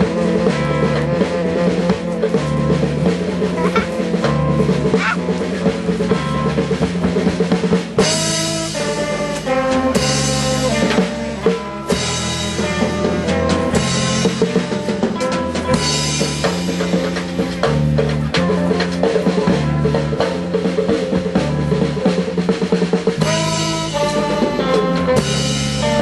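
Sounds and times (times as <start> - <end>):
drum kit: 0.0 - 26.0
electric bass: 0.0 - 26.0.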